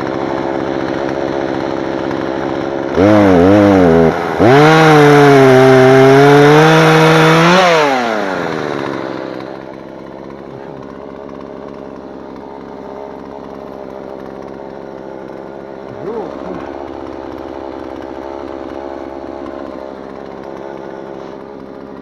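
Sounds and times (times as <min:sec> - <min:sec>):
chainsaw engine revving and idling: 0:00.0 - 0:22.0.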